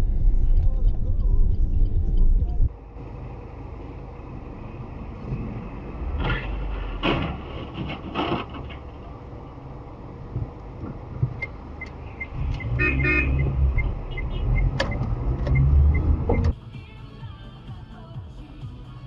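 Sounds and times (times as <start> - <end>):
road noise: 0.0 - 19.0
vehicle engine low rumble: 0.0 - 19.0.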